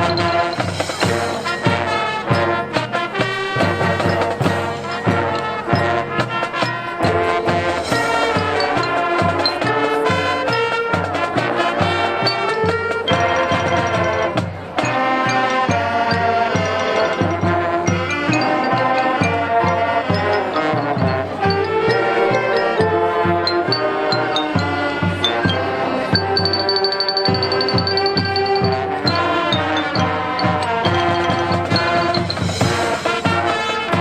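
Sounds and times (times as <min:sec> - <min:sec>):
marching band brass tune: 0:00.0 - 0:34.0
regular drum beat: 0:00.0 - 0:34.0.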